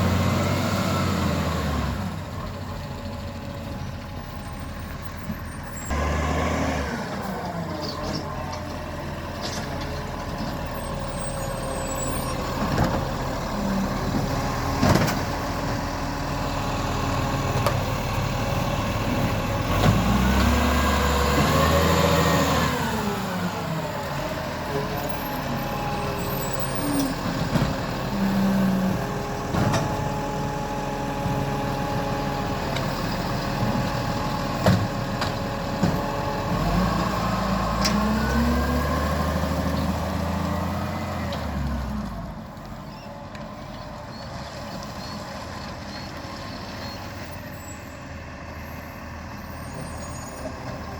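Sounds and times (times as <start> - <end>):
diesel engine revving: 0.0 - 50.9.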